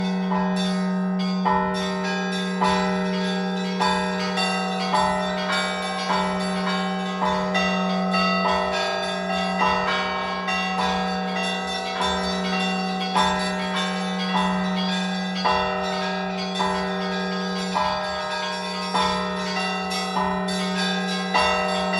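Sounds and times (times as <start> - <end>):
heavy church bell strokes: 0.0 - 21.9
low bell hum: 0.0 - 21.9
small bells ringing quickly: 1.5 - 21.9.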